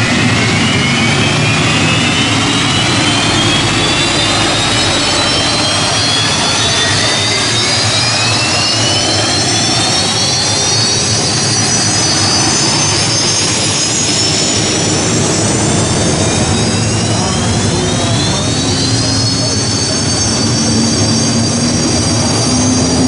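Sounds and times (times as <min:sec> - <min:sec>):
second climbing whine: 0:00.0 - 0:23.0
turbine engine whine and roar: 0:00.0 - 0:23.0.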